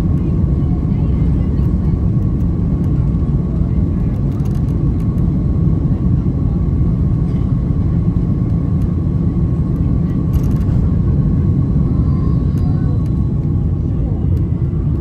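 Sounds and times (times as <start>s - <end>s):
jet engine deep rumble: 0.0s - 15.0s.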